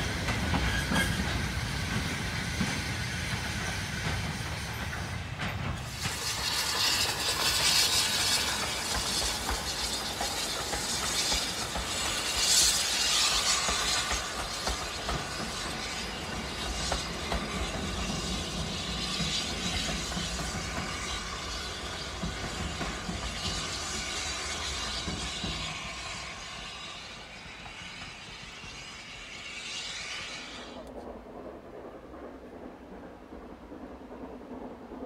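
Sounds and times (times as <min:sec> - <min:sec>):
steam locomotive hauling train: 0:00.0 - 0:35.0.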